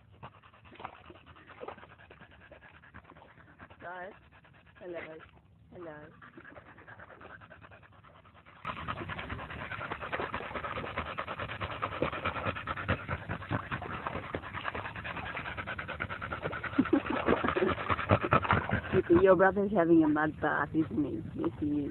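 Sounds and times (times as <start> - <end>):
dog panting: 0.0 - 21.9
dog splashing in muddy water: 0.0 - 21.9.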